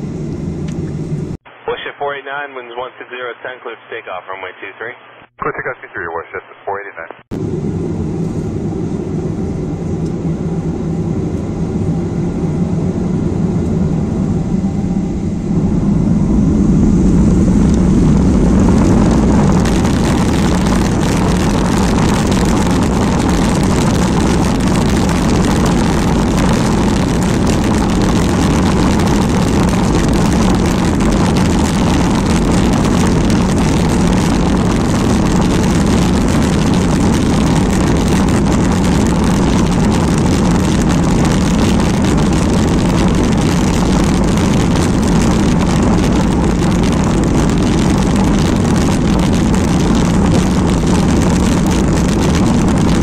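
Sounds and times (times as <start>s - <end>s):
runway rumble: 7.3s - 53.0s
jet engines spooling up: 7.4s - 53.0s.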